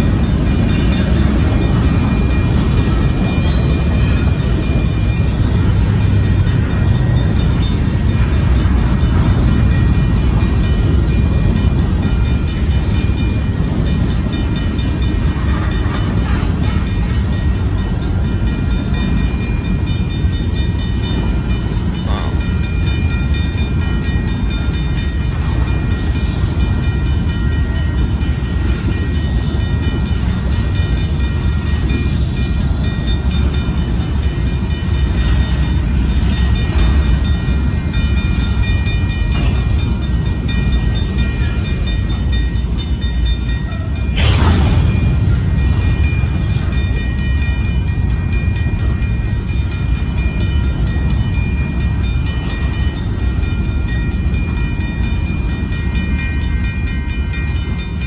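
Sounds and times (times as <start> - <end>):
crossing warning bell ringing: 0.0 - 58.0
train wheels rumbling on rail: 0.0 - 58.0.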